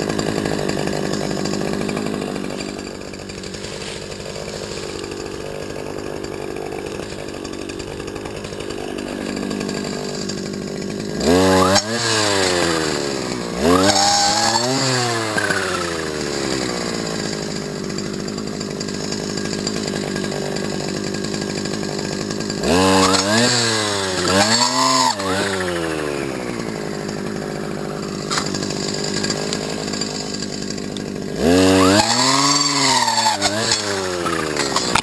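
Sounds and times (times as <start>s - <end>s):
brush cutter engine revving: 0.0s - 35.0s.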